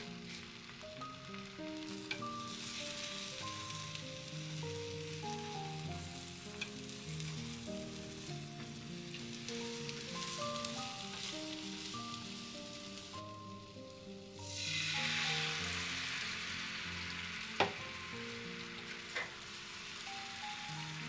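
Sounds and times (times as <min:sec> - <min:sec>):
egg sizzling in a pan: 0:00.0 - 0:21.0
soft slow background music: 0:00.0 - 0:21.0.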